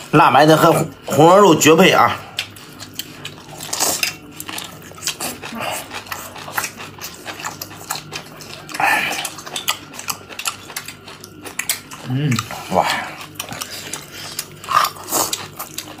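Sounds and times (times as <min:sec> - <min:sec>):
wet crunching and lip smacking: 0:02.3 - 0:16.0.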